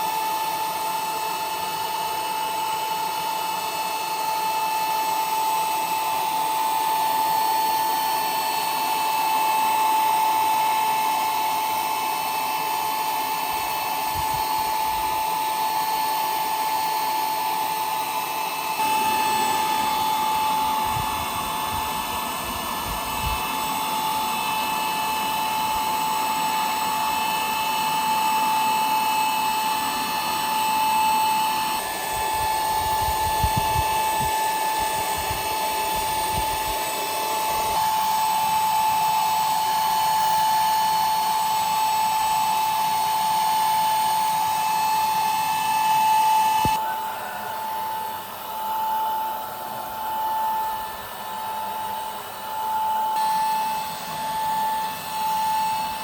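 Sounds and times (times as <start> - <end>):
small motor high-pitched whine: 0.0 - 56.0.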